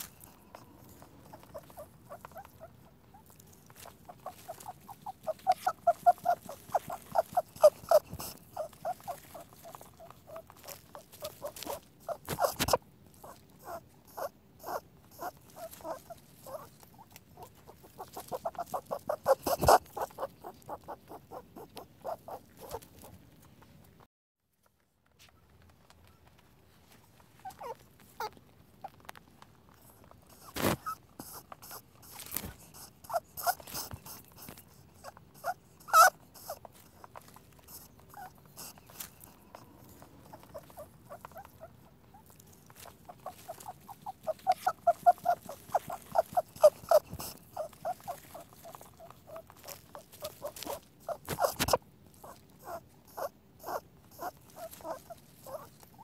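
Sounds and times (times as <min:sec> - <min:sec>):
rabbit squeaks and clicks: 0:00.0 - 0:24.1, 0:25.2 - 0:56.0.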